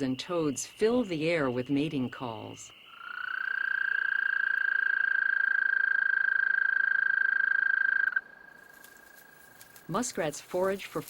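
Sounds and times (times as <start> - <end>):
toad trilling: 0.2 - 9.9.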